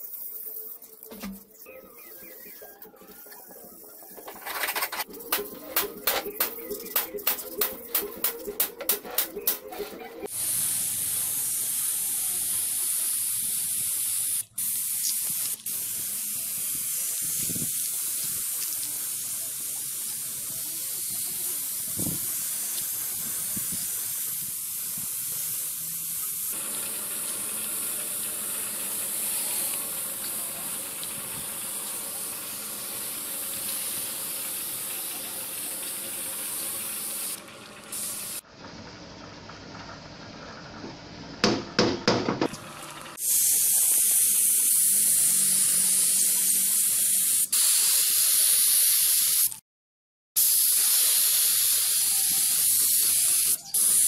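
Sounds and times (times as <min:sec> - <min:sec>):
spray paint hissing: 0:00.0 - 0:38.4, 0:43.2 - 0:49.6, 0:50.4 - 0:54.0.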